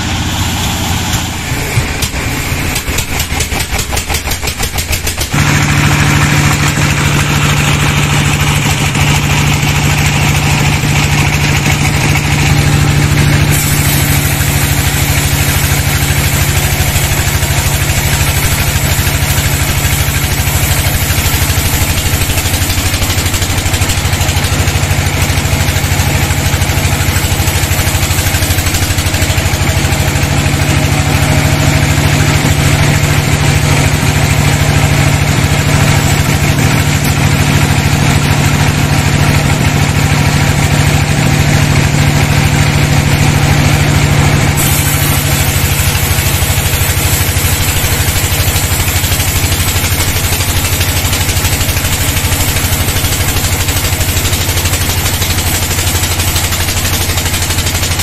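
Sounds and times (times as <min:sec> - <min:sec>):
saw blade cutting wood: 0:00.0 - 0:38.0, 0:44.6 - 0:58.0
band saw machine hum: 0:00.0 - 0:58.0.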